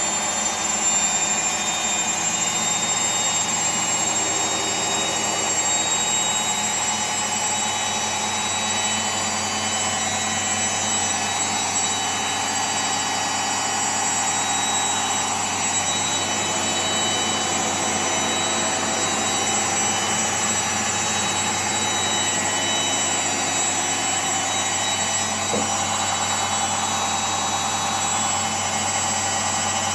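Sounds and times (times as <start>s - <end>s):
washing machine spinning: 0.0s - 29.9s.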